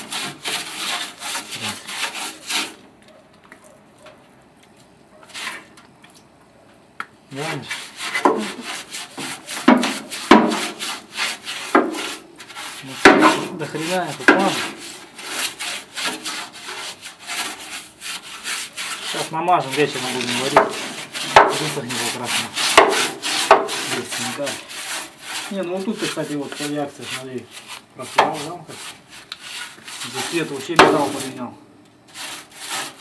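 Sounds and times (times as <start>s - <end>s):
brush scrubbing sheet metal: 0.0s - 2.8s, 7.4s - 33.0s.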